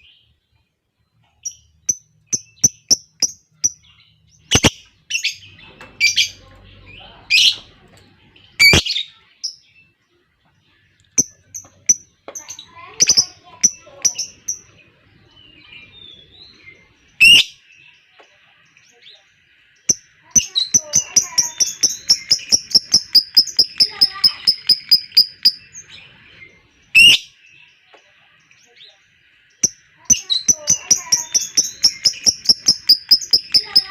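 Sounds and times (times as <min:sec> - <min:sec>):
lovebirds chirping and squawking: 0:00.0 - 0:33.9.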